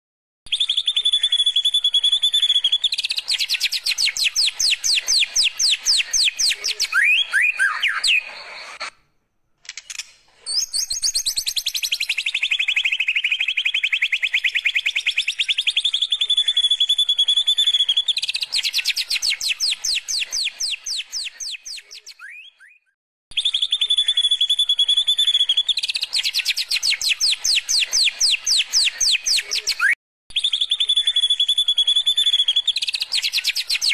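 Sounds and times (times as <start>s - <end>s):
bird singing whistled song: 0.5s - 8.8s, 10.4s - 33.9s.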